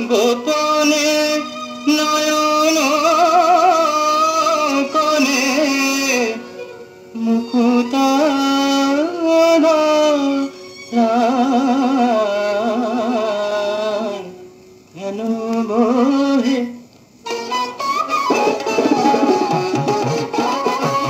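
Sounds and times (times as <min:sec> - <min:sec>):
film song from vinyl record: 0:00.0 - 0:21.0.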